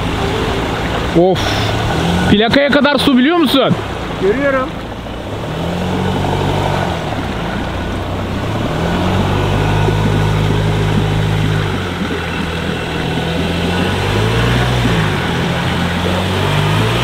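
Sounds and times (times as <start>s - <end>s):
truck engine under load: 0.0s - 17.0s
water washing: 0.0s - 17.0s.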